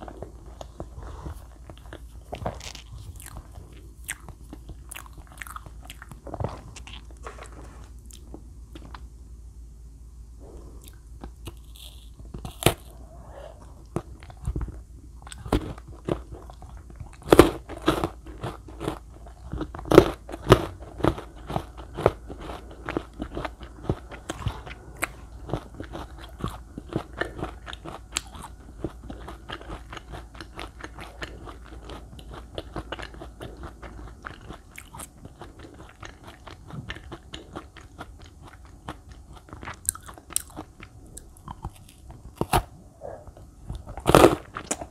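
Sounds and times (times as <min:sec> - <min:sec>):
wafer bar crunching and chewing: 0:00.0 - 0:09.0, 0:10.8 - 0:13.0, 0:13.9 - 0:42.7, 0:43.7 - 0:44.9.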